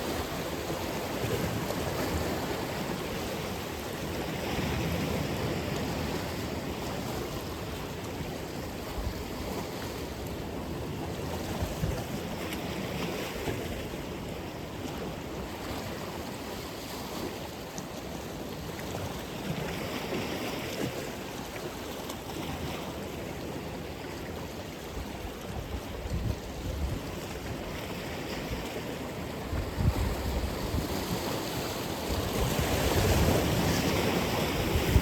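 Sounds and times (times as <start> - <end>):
waves washing onto shore: 0.0 - 35.0.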